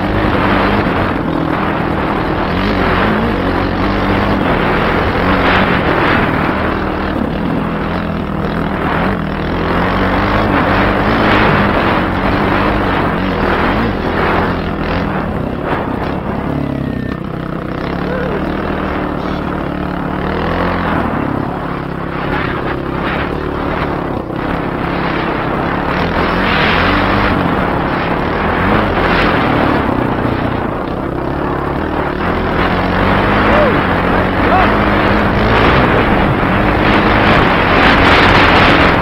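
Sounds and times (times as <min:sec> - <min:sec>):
dirt bike engine revving: 0:00.0 - 0:39.0
wind noise on microphone: 0:00.0 - 0:39.0.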